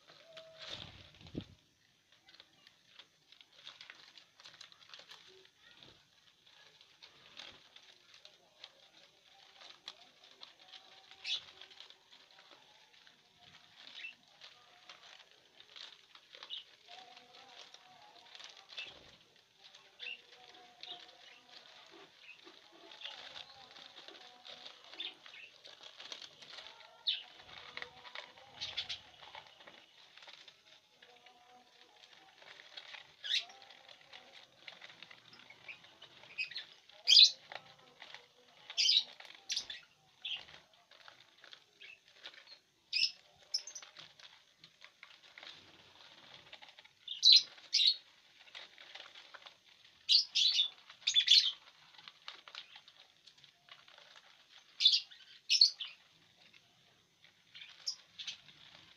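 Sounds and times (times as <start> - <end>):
birds tearing dry husks: 0.0 - 58.9
wings fluttering: 0.0 - 58.9
lovebirds chirping: 6.4 - 58.9.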